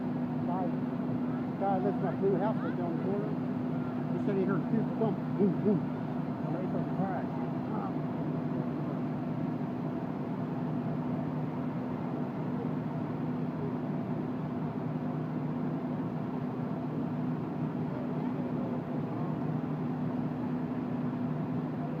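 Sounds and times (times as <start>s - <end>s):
fire engine droning: 0.0s - 22.0s.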